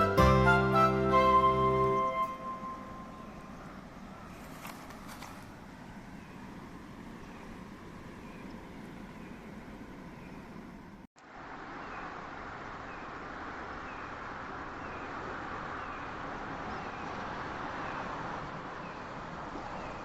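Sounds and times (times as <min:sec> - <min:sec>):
car road noise: 0:00.0 - 0:20.0.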